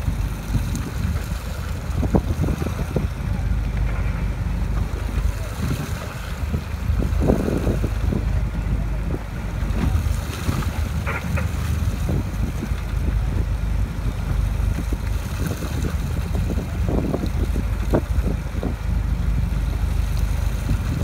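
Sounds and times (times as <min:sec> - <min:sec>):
boat engine rumbling: 0:00.0 - 0:21.0
water sloshing against hull: 0:00.0 - 0:21.0
wind buffeting microphone: 0:00.0 - 0:21.0.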